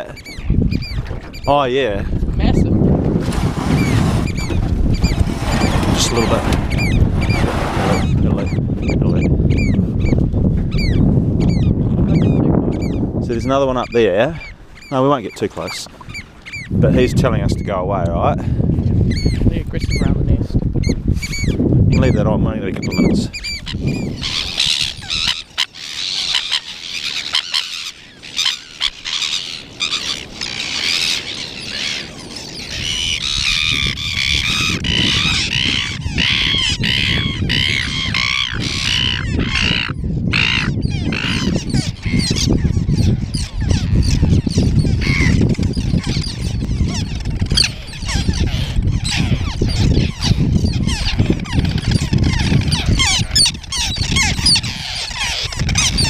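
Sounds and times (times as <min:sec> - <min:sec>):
birds squawking: 0:00.0 - 0:01.7, 0:03.6 - 0:17.8, 0:19.1 - 0:20.2, 0:20.8 - 0:56.0.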